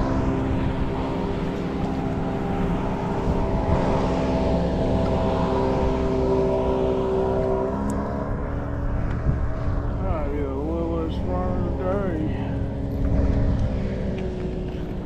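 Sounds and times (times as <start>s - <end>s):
motorboat engine passing: 0.0s - 15.0s.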